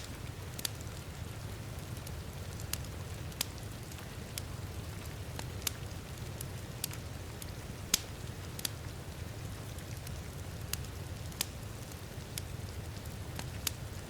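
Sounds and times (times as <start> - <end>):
fire popping: 0.0 - 14.0
heavy rain: 0.0 - 14.0
wood fire crackling: 0.0 - 14.0.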